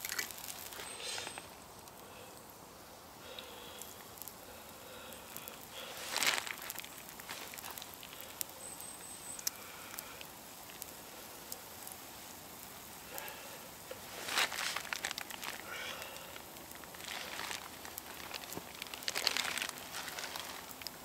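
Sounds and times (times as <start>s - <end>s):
batter sizzling on hot rock: 0.0s - 21.0s
campfire crackling and popping: 0.0s - 21.0s.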